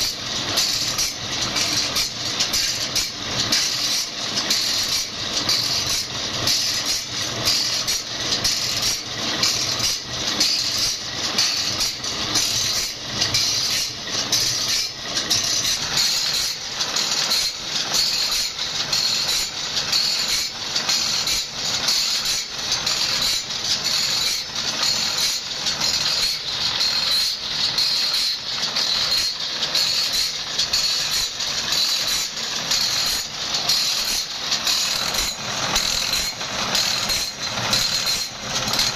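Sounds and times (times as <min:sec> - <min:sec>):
grinding wheel rasping saw teeth: 0:00.0 - 0:38.9.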